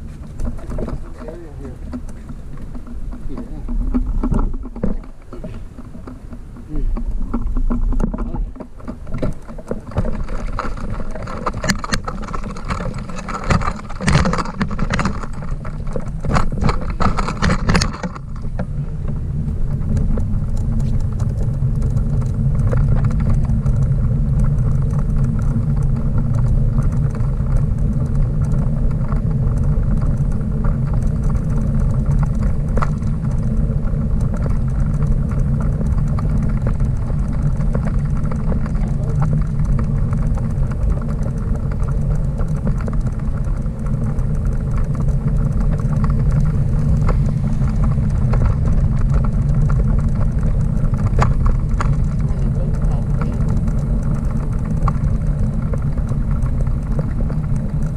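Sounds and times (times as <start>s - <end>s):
trailer rolling over pavement: 0.0s - 57.9s.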